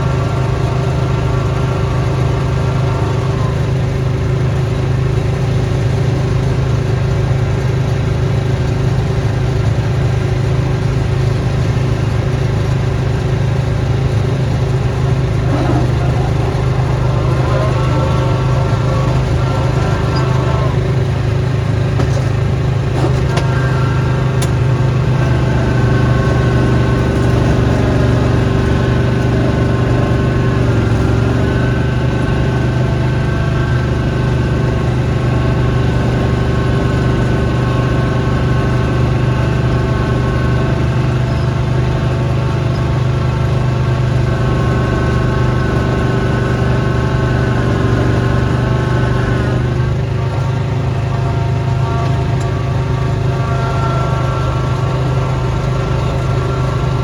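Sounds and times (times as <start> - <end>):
snow blower engine running: 0.0 - 57.0.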